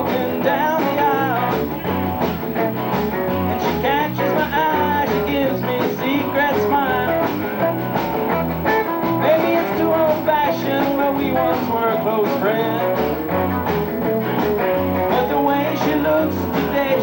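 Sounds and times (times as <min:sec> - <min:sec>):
electric lead guitar bending notes: 0:00.0 - 0:17.0
rock band playing: 0:00.0 - 0:17.0.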